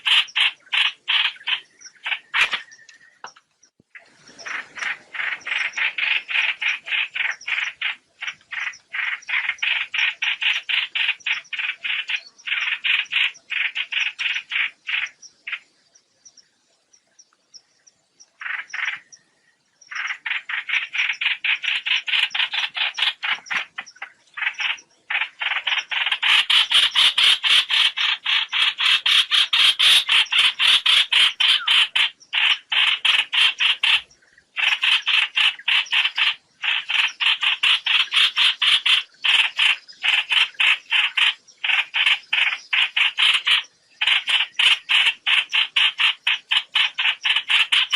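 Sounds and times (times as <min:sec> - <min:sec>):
bird chattering calls: 0:00.0 - 0:03.4, 0:04.0 - 0:15.8, 0:18.3 - 0:19.2, 0:19.9 - 0:47.9.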